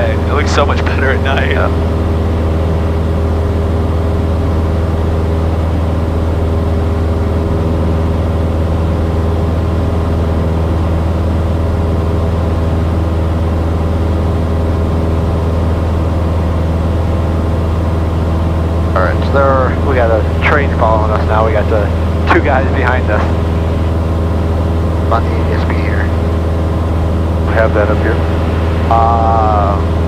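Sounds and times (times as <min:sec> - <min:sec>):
airplane engine and propeller droning: 0:00.0 - 0:30.0.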